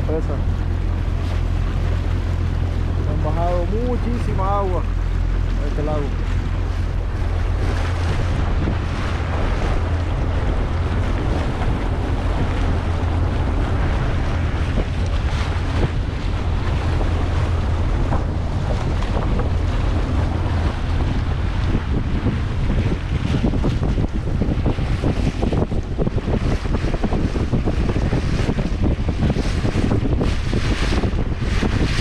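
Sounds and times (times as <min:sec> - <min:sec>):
boat motor running: 0:00.0 - 0:32.0
water noise: 0:00.0 - 0:32.0
wind buffeting microphone: 0:00.0 - 0:32.0.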